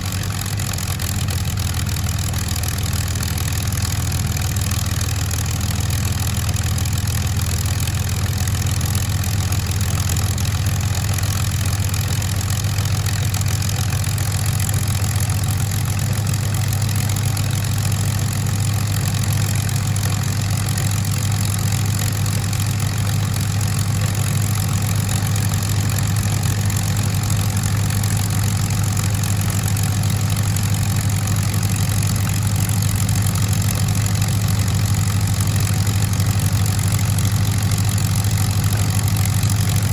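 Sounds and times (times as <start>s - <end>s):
aircraft engines idling: 0.0s - 39.9s.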